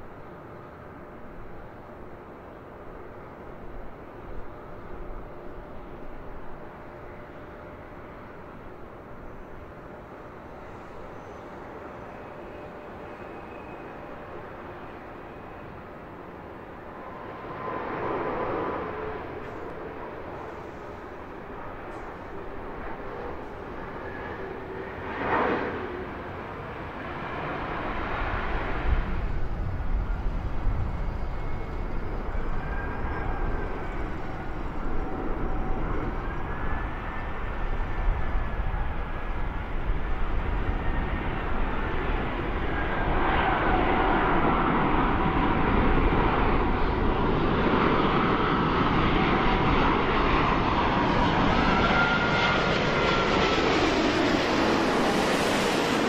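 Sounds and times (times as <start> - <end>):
jet engine rumble: 0.0 - 56.0
jet engines whining: 10.7 - 56.0.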